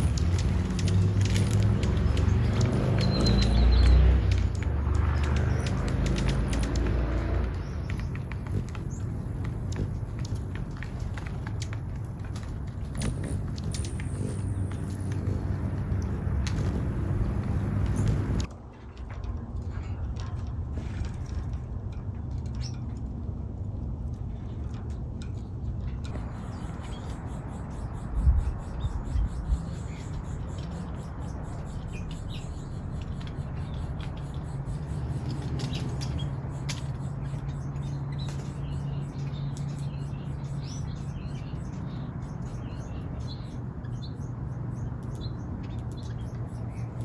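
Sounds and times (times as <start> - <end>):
cage birds chirping: 0.0 - 18.5, 19.1 - 47.0.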